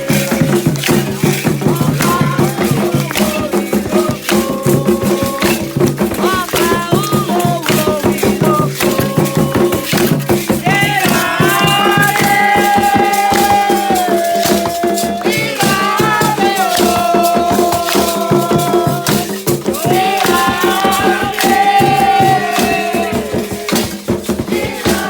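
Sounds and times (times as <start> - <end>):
rattle shaken rhythmically: 0.0 - 25.0.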